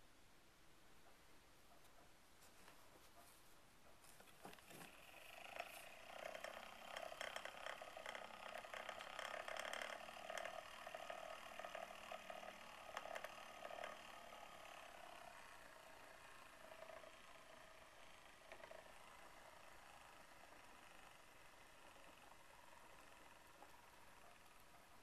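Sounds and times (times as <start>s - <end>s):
toy motor whirring and clicking: 4.1s - 25.0s.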